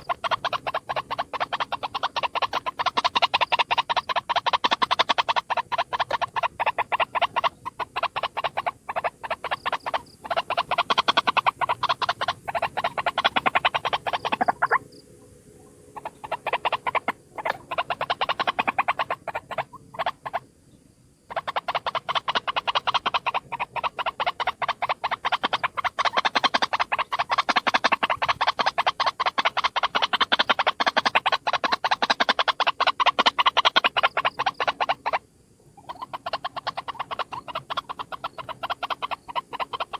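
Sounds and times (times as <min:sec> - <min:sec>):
waterhen croaking calls: 0:00.0 - 0:15.0, 0:15.6 - 0:20.5, 0:21.3 - 0:39.9.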